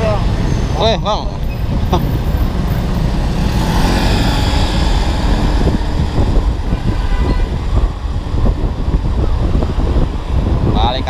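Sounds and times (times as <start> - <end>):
wind rumble on microphone: 0.0 - 11.0
scooter engine drone: 1.4 - 10.8.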